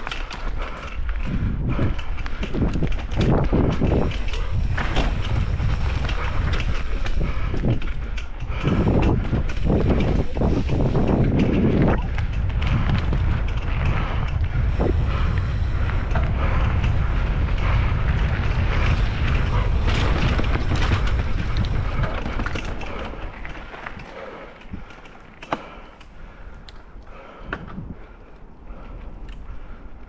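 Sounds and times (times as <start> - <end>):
bike clicks and rattles: 0.0 - 30.0
bike tyre noise: 0.0 - 30.0
wind buffeting microphone: 0.0 - 30.0.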